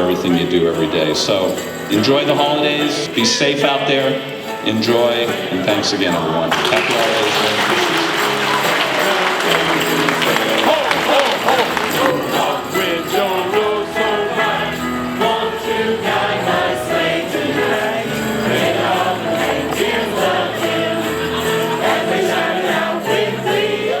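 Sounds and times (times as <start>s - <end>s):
choir singing: 2.6s - 24.0s.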